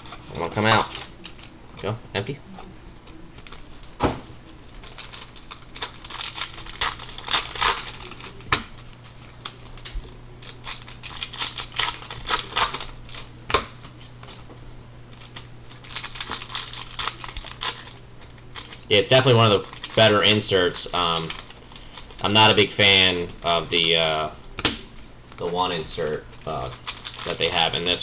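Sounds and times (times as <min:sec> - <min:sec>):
foil wrappers crinkling and tearing: 0:00.0 - 0:01.6, 0:03.3 - 0:28.0
cards being handled: 0:03.0 - 0:28.0.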